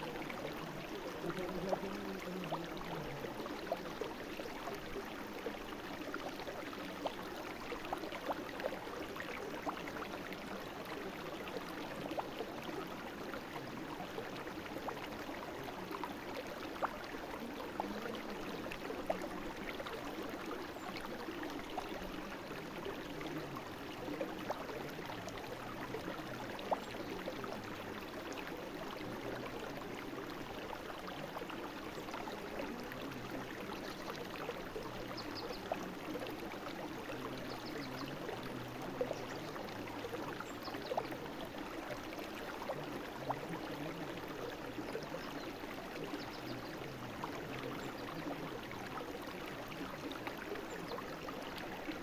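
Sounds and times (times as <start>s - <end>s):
brook babbling over stones: 0.0s - 52.0s.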